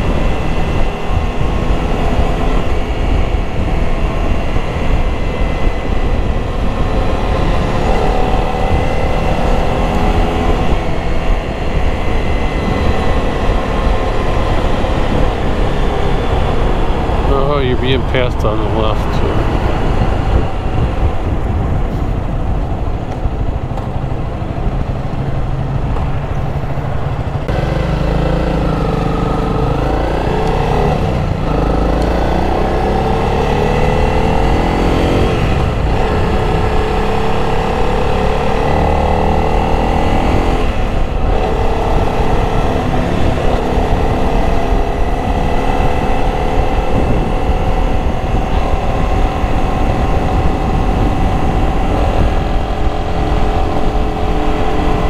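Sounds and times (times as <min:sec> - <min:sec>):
motorcycle engine accelerating: 0:00.0 - 0:55.0
wind buffeting microphone: 0:00.0 - 0:55.0.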